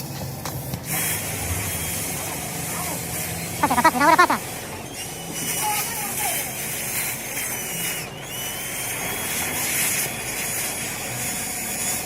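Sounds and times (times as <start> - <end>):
loud mechanical hiss: 0.0 - 12.0.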